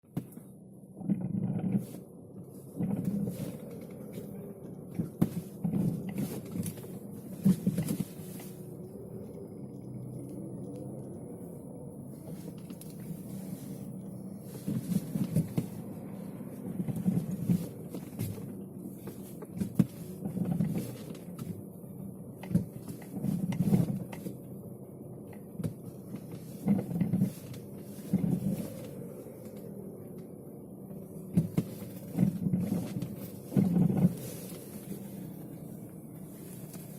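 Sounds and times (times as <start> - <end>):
car cabin drone: 0.0 - 36.9.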